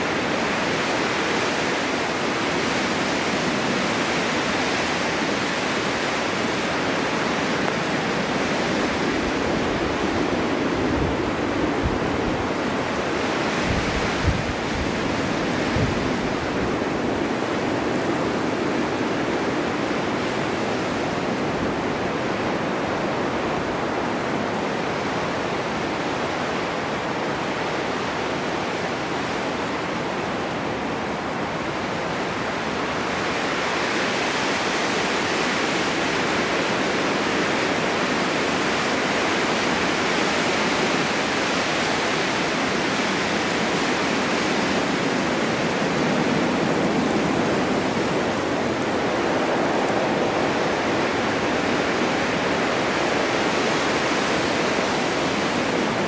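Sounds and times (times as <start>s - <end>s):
snowstorm wind blowing: 0.0s - 56.0s.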